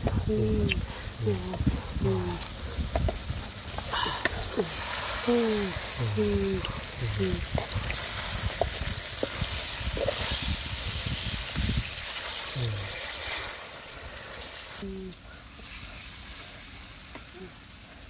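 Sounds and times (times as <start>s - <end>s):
fish sizzling in a wok: 2.5s - 14.9s, 15.5s - 18.0s.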